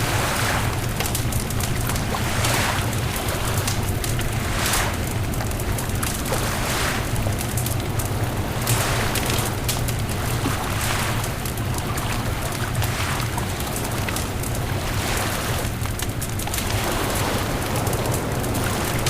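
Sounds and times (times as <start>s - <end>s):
bonfire crackling and popping: 0.0s - 19.0s
steady low rumble: 0.0s - 19.0s.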